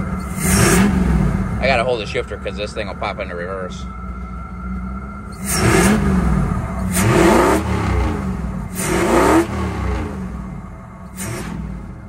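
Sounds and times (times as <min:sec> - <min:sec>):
car engine revving: 0:00.0 - 0:12.0
engine intake roar: 0:00.0 - 0:12.0.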